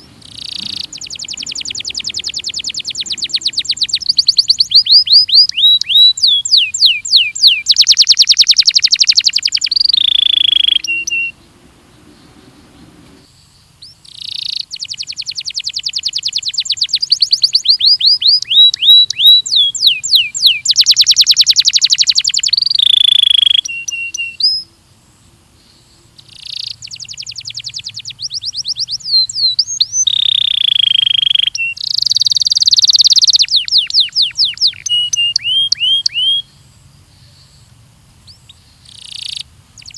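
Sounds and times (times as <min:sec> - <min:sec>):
canary singing: 0:00.0 - 0:24.7, 0:25.7 - 0:36.6, 0:37.2 - 0:39.9.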